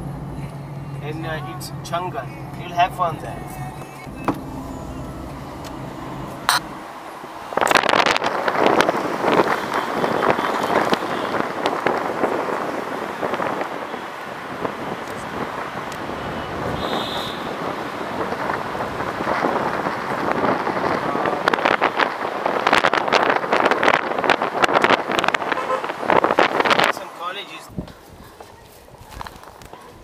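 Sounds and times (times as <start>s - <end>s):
road and traffic noise: 0.0s - 30.0s
wind buffeting microphone: 4.1s - 30.0s.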